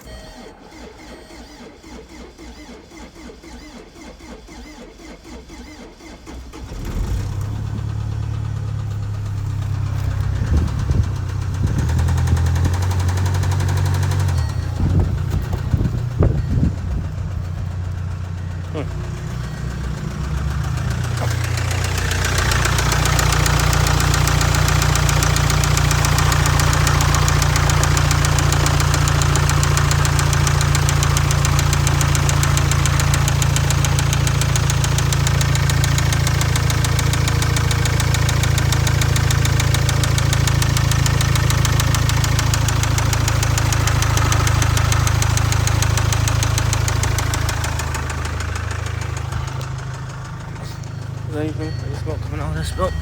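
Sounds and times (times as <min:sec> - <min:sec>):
engine running with rod knock: 0:06.6 - 0:53.0.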